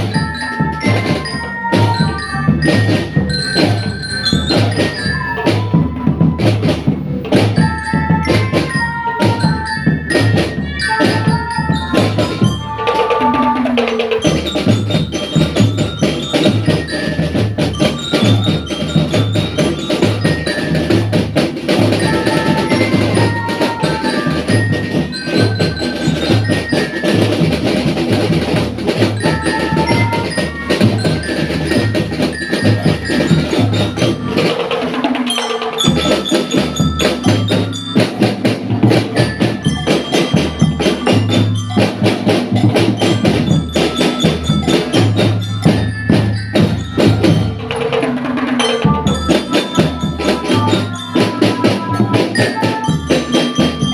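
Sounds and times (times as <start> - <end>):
drums beating: 0.0 - 53.9
mallet bells melody: 0.0 - 53.9.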